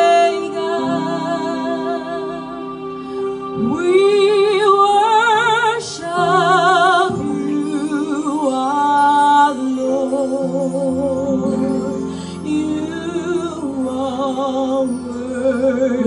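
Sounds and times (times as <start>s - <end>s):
held accompaniment chords: 0.0s - 16.0s
woman singing with vibrato: 0.0s - 16.0s.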